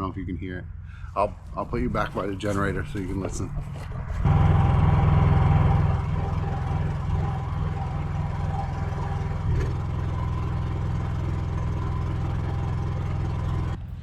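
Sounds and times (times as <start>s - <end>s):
portable generator running: 1.8s - 14.0s.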